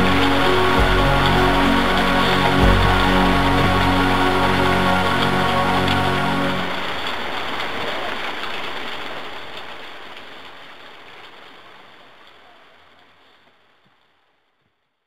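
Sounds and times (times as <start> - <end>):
steady rain: 0.0 - 14.6.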